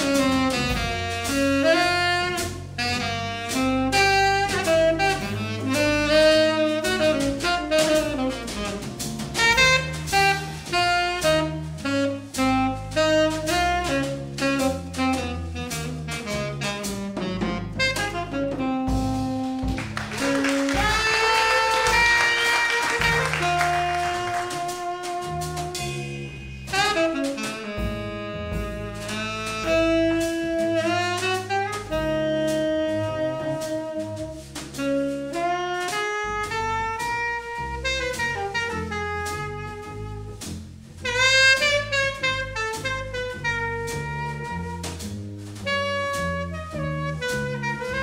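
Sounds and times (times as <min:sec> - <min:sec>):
tenor saxophone melody: 0:00.0 - 0:45.0, 0:45.6 - 0:48.0
drums with cymbal strokes: 0:00.0 - 0:48.0
plucked double bass: 0:00.0 - 0:48.0.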